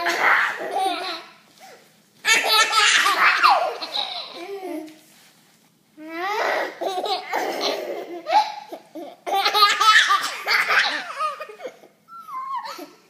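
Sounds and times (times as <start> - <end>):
baby laughing: 0.0 - 1.4, 2.3 - 4.9, 6.3 - 13.0.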